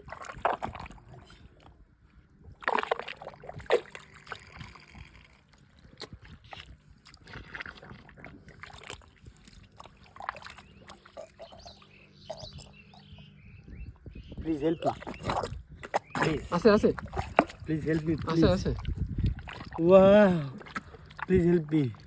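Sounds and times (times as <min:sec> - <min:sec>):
water splashing and sloshing: 0:00.0 - 0:22.0.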